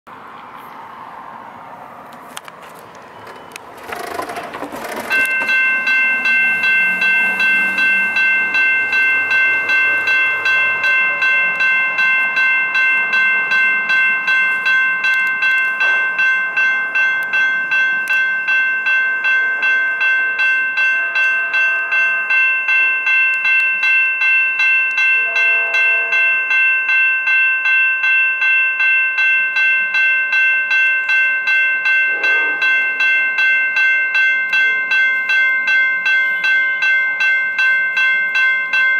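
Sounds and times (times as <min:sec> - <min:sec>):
railroad crossing bell ringing: 0:02.4 - 0:38.9.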